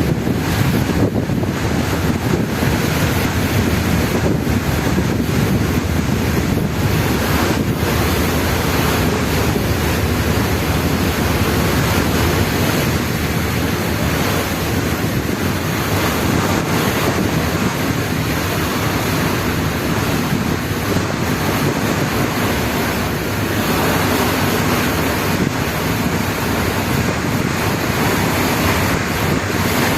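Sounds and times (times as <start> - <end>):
ferry engines low hum: 0.0 - 29.9
water rushing along hull: 0.0 - 29.9
wind buffeting microphone: 0.0 - 29.9.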